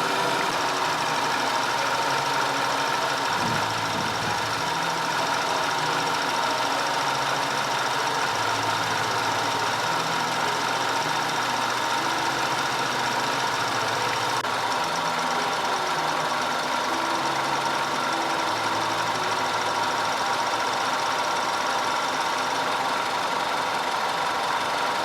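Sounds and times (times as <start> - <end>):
car engine idling: 0.0 - 25.0
whining tones: 0.0 - 25.0.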